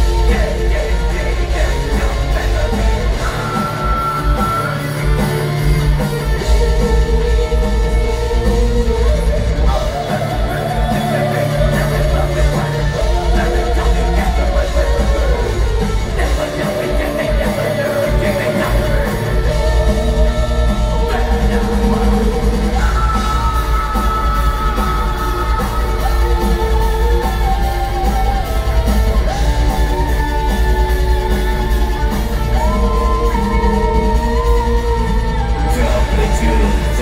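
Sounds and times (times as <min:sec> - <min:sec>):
distorted guitars: 0:00.0 - 0:37.0
drums: 0:00.0 - 0:37.0
vocals: 0:00.0 - 0:37.0.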